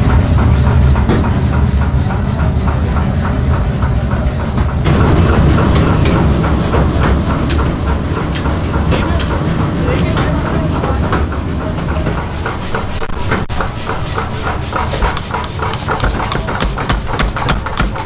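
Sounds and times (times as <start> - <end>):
workshop machinery rumbling and clattering: 0.0 - 18.0.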